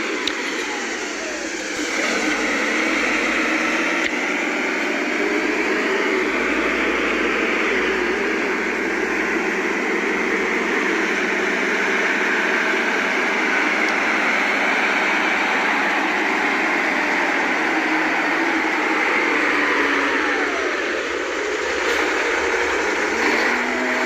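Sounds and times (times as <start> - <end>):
earthmoving machine engine droning: 0.0 - 24.0.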